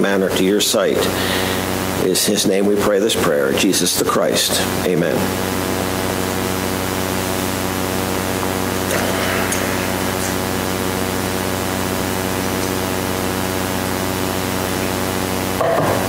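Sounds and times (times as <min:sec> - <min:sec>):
low buzzing hum: 0:00.0 - 0:16.0
steady hiss: 0:00.3 - 0:16.0.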